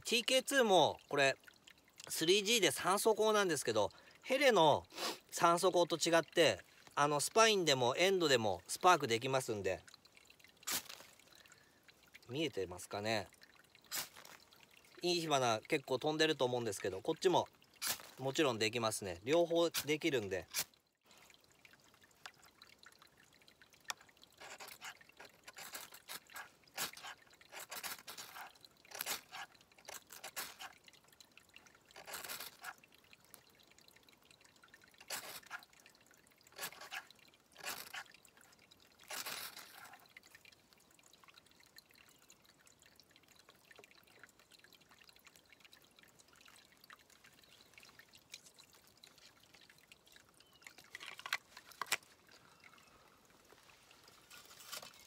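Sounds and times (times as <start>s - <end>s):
faint trickle of water: 0.0s - 55.0s.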